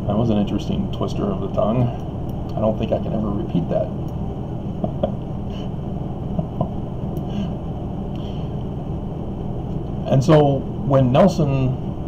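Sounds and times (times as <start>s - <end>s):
low room hum and hiss: 0.0s - 12.0s.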